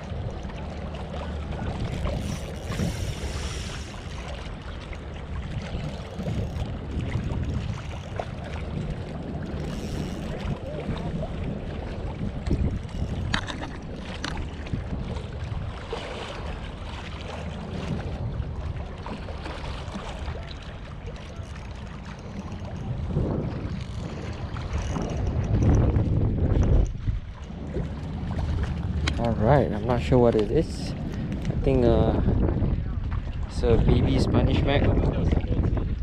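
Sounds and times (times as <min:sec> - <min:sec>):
sea washing: 0:00.0 - 0:36.0
wind buffeting microphone: 0:00.0 - 0:36.0.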